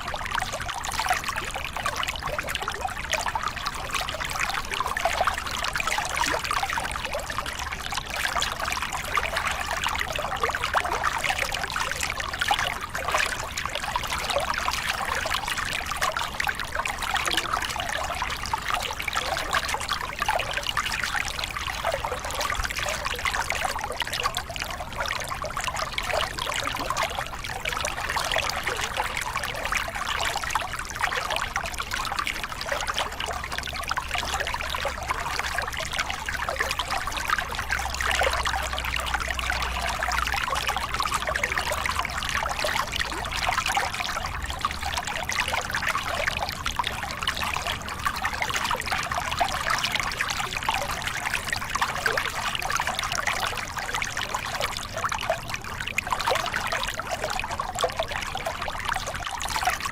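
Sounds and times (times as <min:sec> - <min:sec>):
water splashing over rocks: 0:00.0 - 0:59.9.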